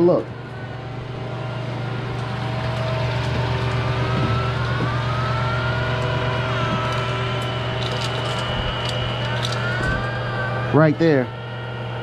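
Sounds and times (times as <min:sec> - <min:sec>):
faint rising whine: 0:00.0 - 0:12.0
ice machine motor humming: 0:00.0 - 0:12.0.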